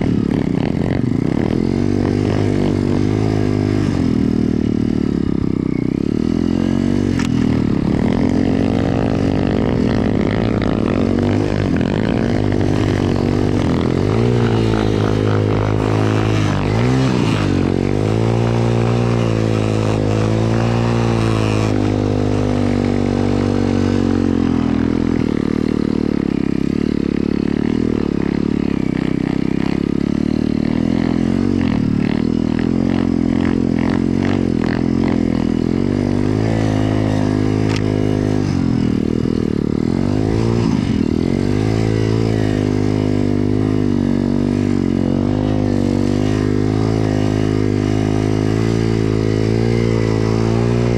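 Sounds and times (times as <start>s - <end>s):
motorbike engine revving: 0.0s - 50.9s.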